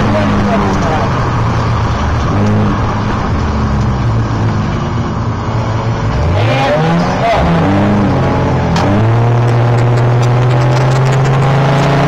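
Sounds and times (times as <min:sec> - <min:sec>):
race car engine: 0:00.0 - 0:12.0
road and wind noise: 0:00.0 - 0:12.0.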